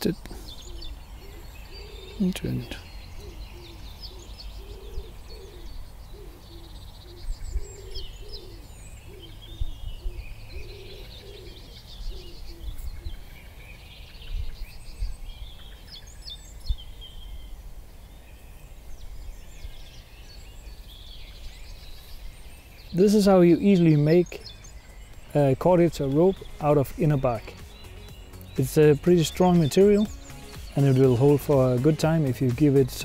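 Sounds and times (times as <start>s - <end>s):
low repeated bird calls: 0.0s - 33.0s
woodland birds chirping: 0.0s - 33.0s.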